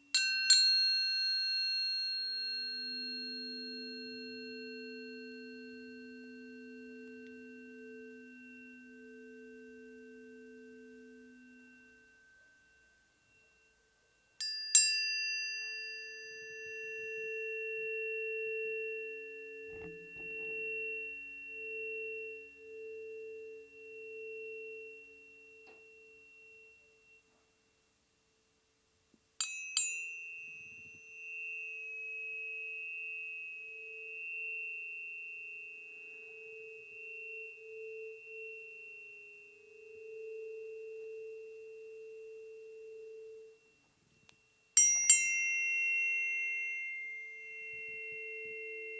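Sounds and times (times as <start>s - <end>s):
tuning forks ringing: 0.0s - 27.7s, 29.4s - 48.9s.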